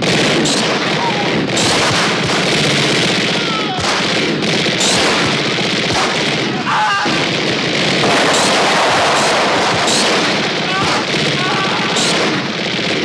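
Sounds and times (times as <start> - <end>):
rapid futuristic gunfire: 0.0 - 13.0.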